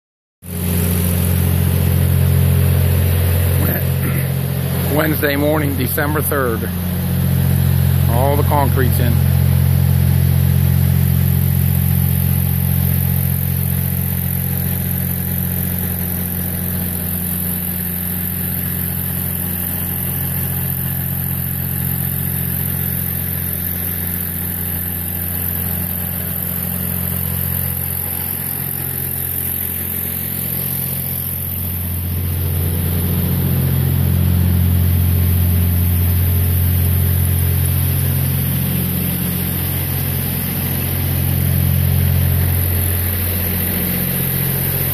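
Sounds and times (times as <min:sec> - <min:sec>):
truck engine droning: 0:00.5 - 0:16.9, 0:18.3 - 0:44.9.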